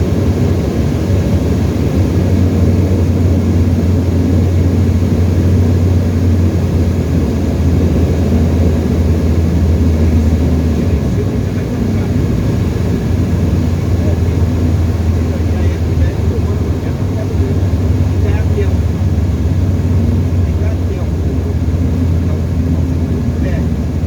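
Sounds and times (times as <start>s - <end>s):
aircraft engine and propeller droning: 0.0s - 24.0s.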